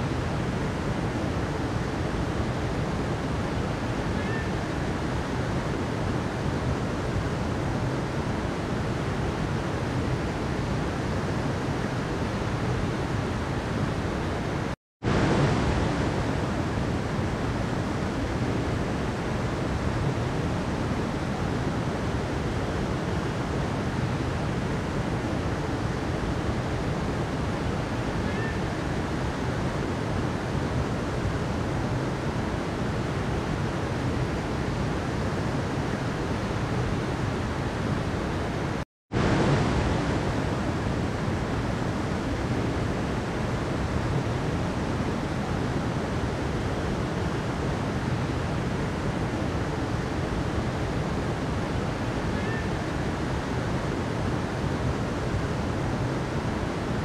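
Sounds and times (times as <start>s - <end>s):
mountain river flowing: 0.0s - 57.0s.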